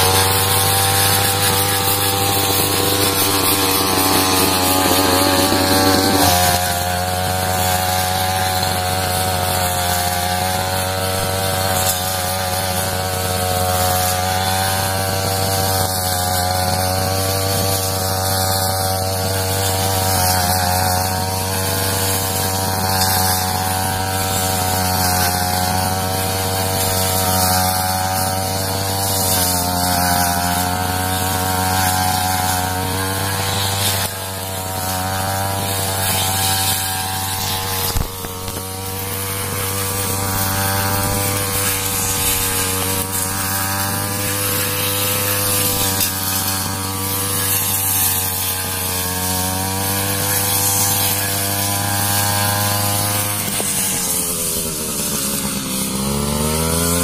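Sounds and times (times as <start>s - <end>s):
brush cutter engine running: 0.0s - 57.0s.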